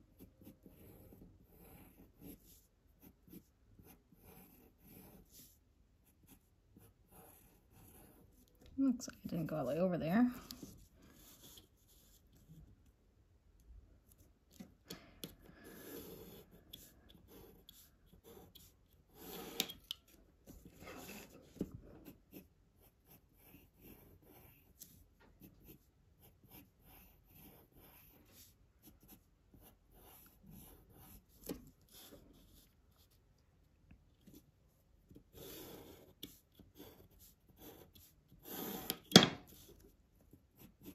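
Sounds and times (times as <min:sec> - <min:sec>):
pencil scratching on paper: 0:00.0 - 0:08.5, 0:09.2 - 0:12.8, 0:15.4 - 0:33.2, 0:35.1 - 0:40.9.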